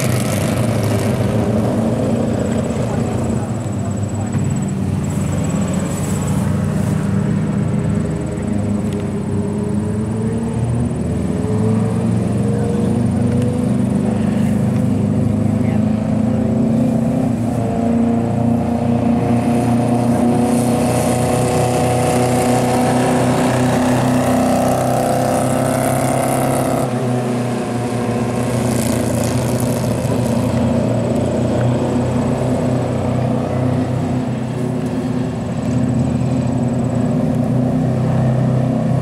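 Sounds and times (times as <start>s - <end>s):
race car engines at speed: 0.0s - 39.0s.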